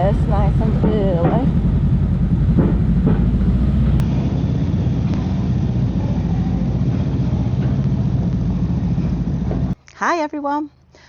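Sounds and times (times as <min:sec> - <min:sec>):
low engine rumble: 0:00.0 - 0:09.8.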